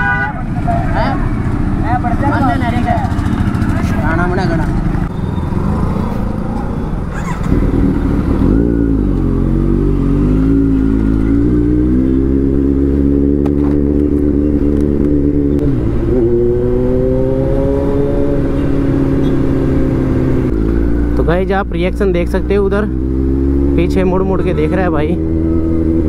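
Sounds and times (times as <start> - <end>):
motorcycle engine running: 0.6 - 26.0.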